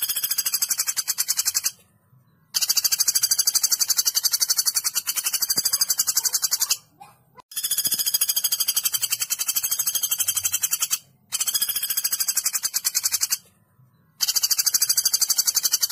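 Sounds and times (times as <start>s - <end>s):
woodpecker rattling call: 0.0s - 1.8s, 2.5s - 6.9s, 7.5s - 13.4s, 14.2s - 15.9s.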